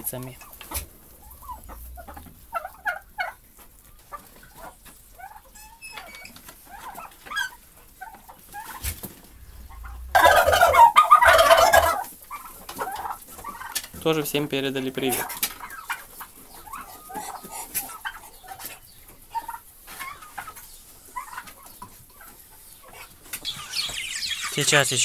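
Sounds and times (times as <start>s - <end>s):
soft poultry calls: 0.1s - 25.0s
turkeys gobbling: 0.3s - 14.2s, 14.8s - 25.0s.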